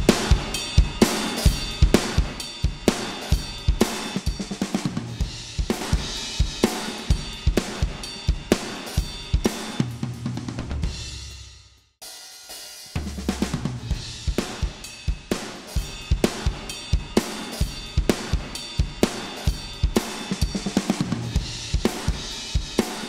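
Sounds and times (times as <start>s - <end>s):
drum kit groove: 0.0s - 23.0s.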